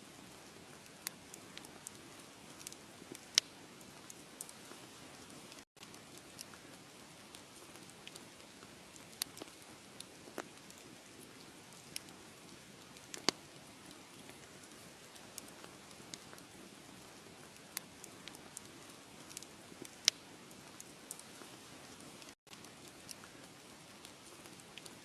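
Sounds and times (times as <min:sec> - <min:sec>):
wood fire crackling: 0:00.1 - 0:25.0.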